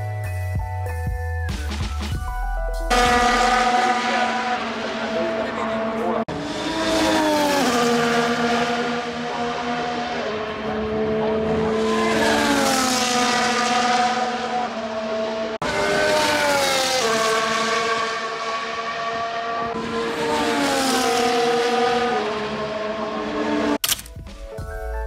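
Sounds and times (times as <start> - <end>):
race cars passing at high revs: 2.9 - 23.8.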